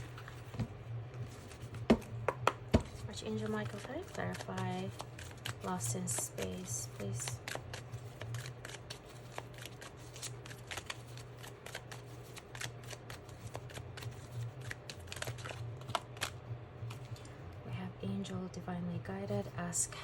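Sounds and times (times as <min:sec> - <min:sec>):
cards being shuffled: 0:00.0 - 0:17.2.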